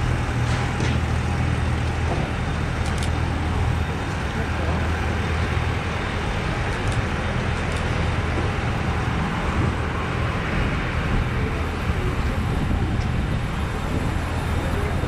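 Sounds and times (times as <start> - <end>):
steady engine drone: 0.0 - 15.0.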